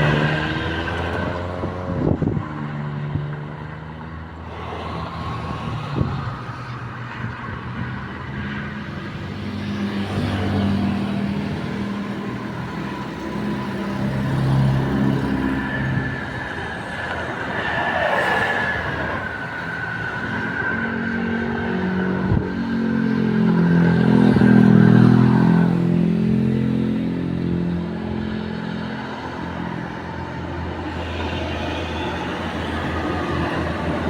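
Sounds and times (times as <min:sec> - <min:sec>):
bus passing by: 0:00.0 - 0:34.0.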